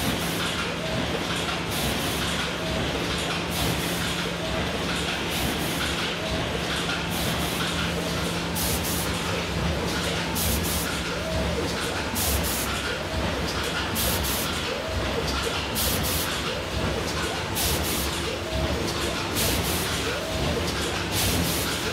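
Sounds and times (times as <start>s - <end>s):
machine clatter: 0.0s - 21.9s.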